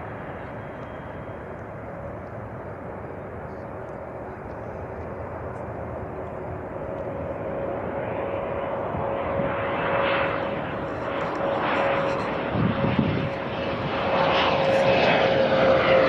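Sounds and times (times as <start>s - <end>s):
jet engines roaring and whining: 0.0s - 16.0s.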